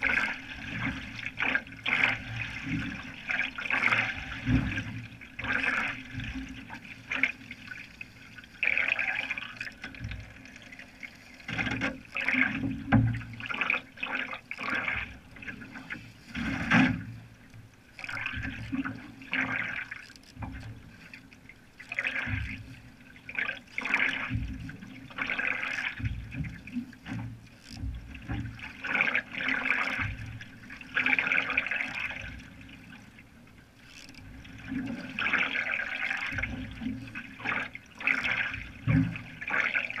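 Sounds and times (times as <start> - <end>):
canoe paddle splashing: 0.0 - 40.0
water washing along hull: 0.0 - 40.0.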